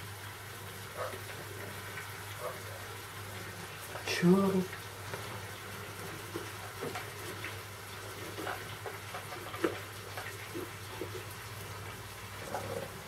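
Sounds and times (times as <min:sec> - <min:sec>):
faint pan sizzling: 0:00.0 - 0:13.0.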